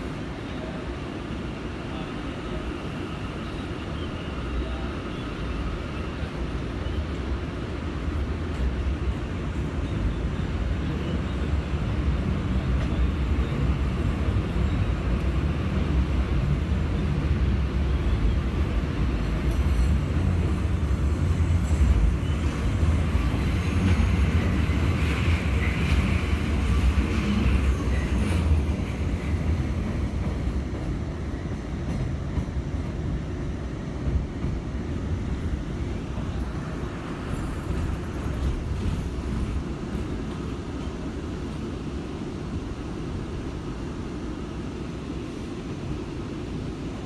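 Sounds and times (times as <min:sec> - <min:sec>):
subway wheels rumbling: 0:00.0 - 0:47.0.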